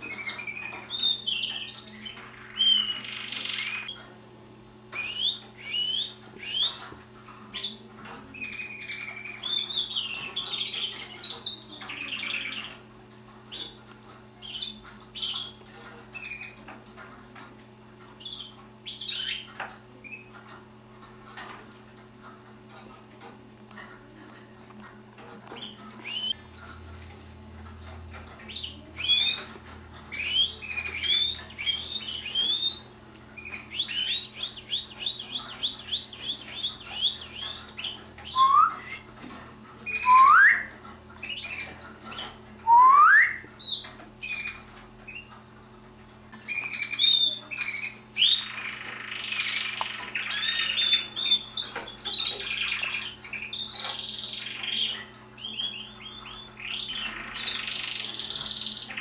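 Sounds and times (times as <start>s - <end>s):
canaries singing: 0.0s - 59.0s.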